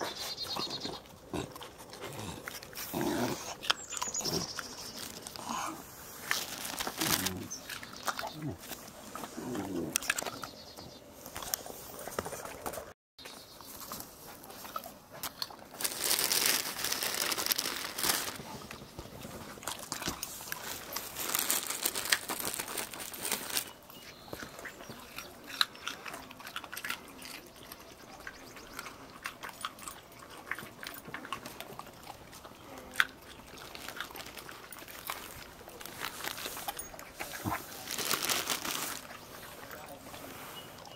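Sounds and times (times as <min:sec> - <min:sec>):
dogs crunching carrots: 0:00.0 - 0:10.6, 0:11.2 - 0:40.9.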